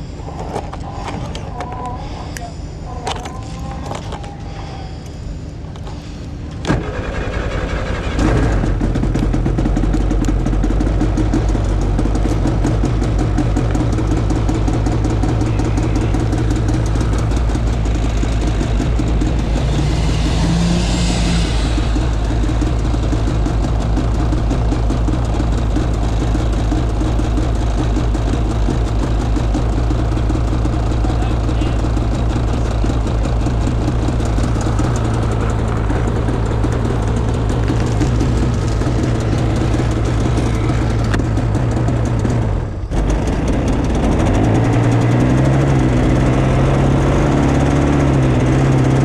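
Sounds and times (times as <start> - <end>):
vehicle engine idling: 0.0 - 49.0.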